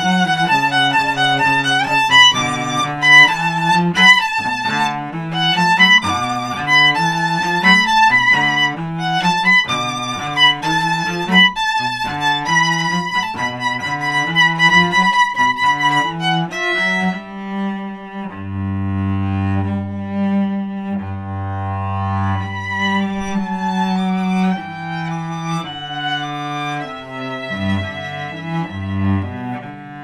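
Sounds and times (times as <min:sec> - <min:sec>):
cello: 0:00.0 - 0:30.0
violin: 0:00.0 - 0:30.0.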